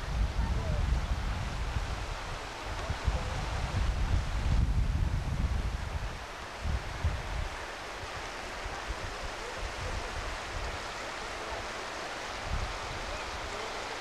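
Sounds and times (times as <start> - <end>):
wind buffeting microphone: 0.0 - 10.9, 12.3 - 13.7
stream running over gravel: 0.0 - 14.0.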